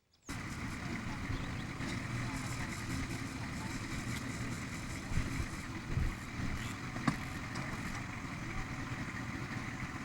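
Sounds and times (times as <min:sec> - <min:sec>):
low engine-like rumble: 0:00.0 - 0:10.0.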